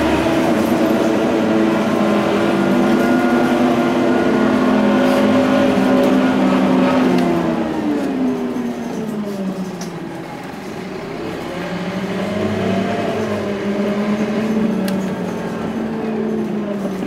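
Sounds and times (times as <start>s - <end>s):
bus engine hum from inside: 0.0s - 17.0s.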